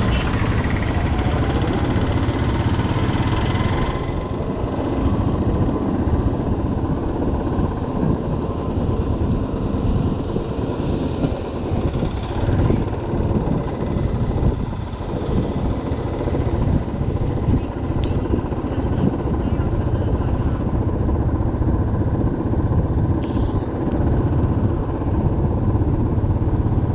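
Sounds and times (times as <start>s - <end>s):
motorcycle engine running: 0.0s - 26.9s
road and wind noise: 0.0s - 26.9s.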